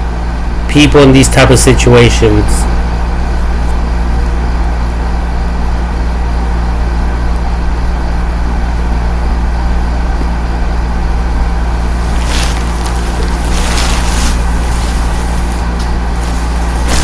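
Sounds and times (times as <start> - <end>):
low rumble with hum: 1.4 - 17.0.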